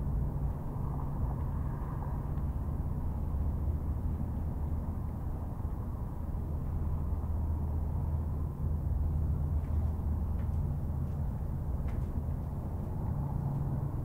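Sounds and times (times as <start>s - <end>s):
low urban rumble and hum: 0.0s - 14.0s.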